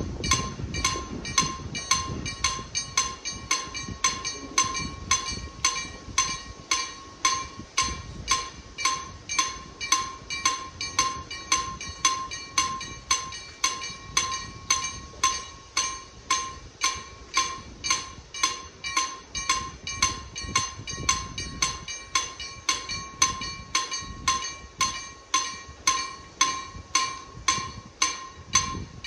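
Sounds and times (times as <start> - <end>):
level crossing warning bell: 0.2 - 29.0.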